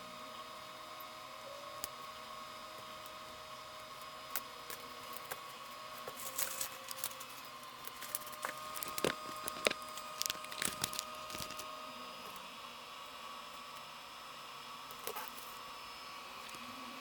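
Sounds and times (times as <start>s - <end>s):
faint steady background hum: 0.0s - 17.0s.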